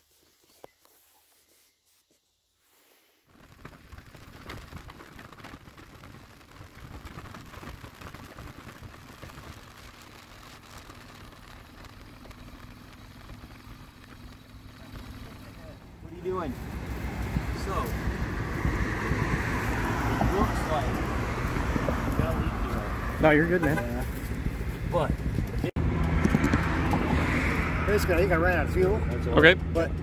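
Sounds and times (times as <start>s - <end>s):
rumbling outdoor noise: 3.3s - 30.0s.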